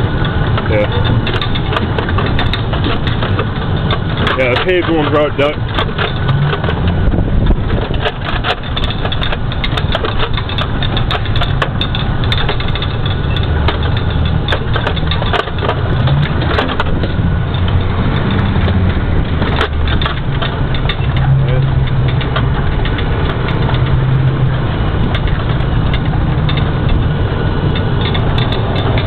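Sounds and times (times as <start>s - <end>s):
diesel engine drone: 0.0s - 29.0s
turret rattling and knocking: 0.0s - 29.0s.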